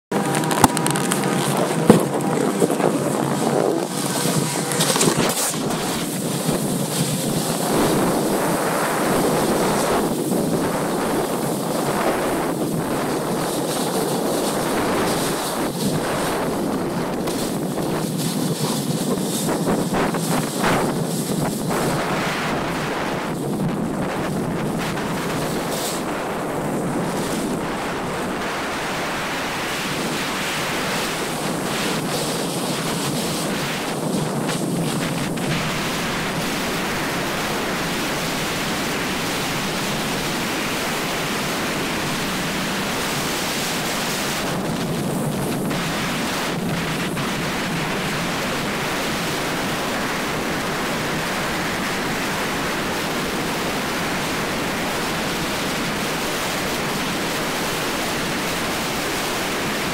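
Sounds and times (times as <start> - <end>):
wind rushing on microphone: 0.0 - 59.9
skis hissing over packed snow: 0.2 - 59.9.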